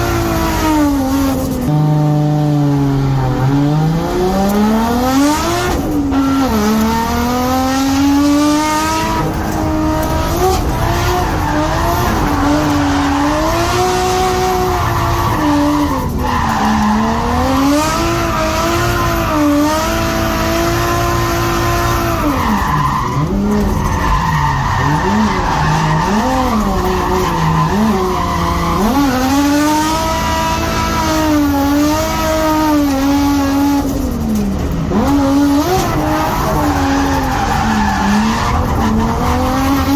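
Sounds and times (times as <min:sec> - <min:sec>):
car engine revving hard: 0:00.0 - 0:39.9
tyres squealing and skidding: 0:07.8 - 0:39.9.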